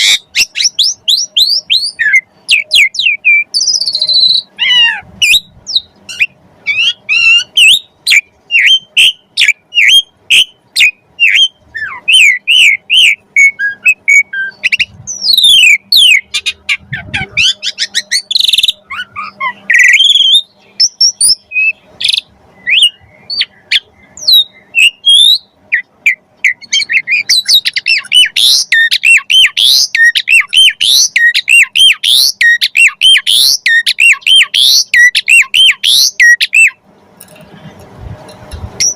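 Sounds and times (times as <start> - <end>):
starling singing: 0.0 - 36.8, 38.5 - 38.9.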